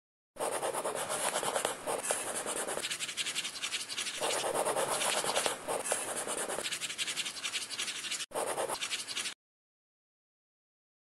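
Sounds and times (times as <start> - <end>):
scribbling on paper: 0.4 - 9.4.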